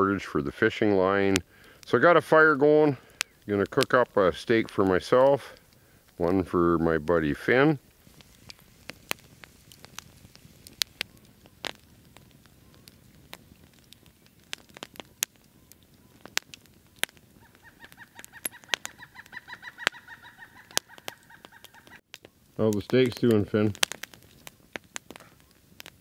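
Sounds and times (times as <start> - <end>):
campfire crackling: 0.0 - 26.0
fire snaps and pops: 0.1 - 26.0.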